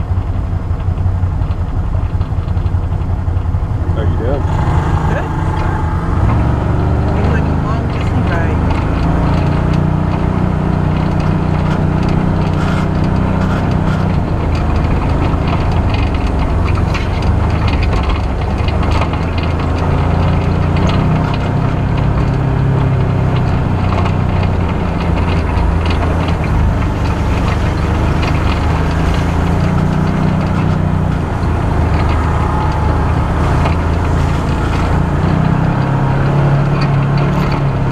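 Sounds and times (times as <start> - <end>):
knocks and rattles from rough track: 0.0 - 37.9
off-road vehicle engine running: 0.0 - 37.9.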